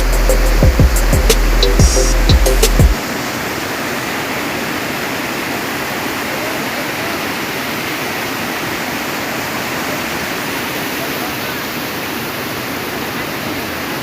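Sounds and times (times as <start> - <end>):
fast-flowing river rushing: 0.0 - 14.0.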